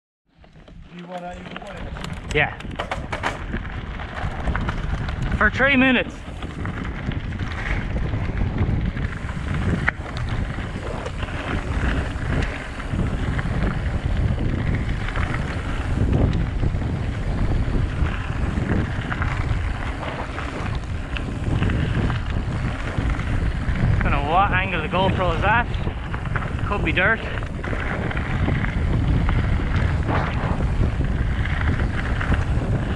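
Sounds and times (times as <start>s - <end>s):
bike rattling: 0.3s - 32.9s
wind buffeting microphone: 0.3s - 32.9s
tyres crunching on gravel: 0.4s - 32.9s.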